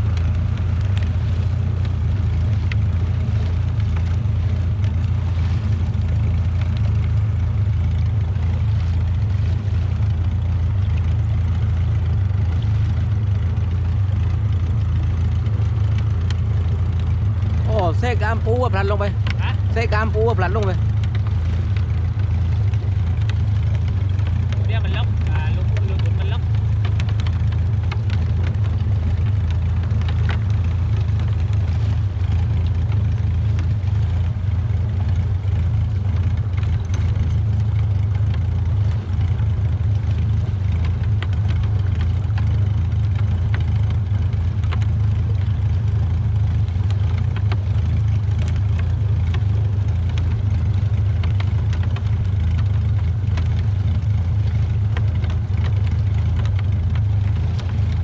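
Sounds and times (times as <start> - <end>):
boat engine humming: 0.0 - 58.0.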